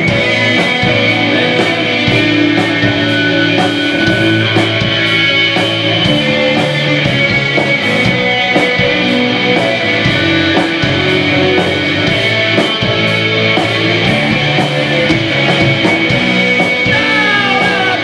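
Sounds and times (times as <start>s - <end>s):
bass guitar: 0.0s - 18.0s
distorted electric guitars: 0.0s - 18.0s
drums: 0.0s - 18.0s.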